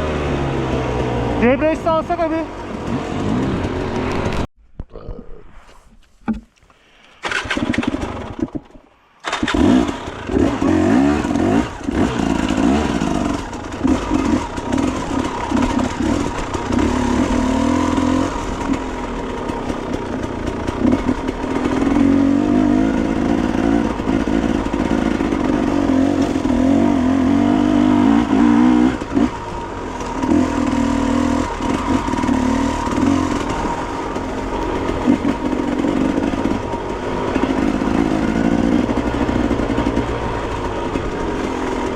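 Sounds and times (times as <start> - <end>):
motorcycle engine revving: 0.0 - 4.5, 7.2 - 41.9.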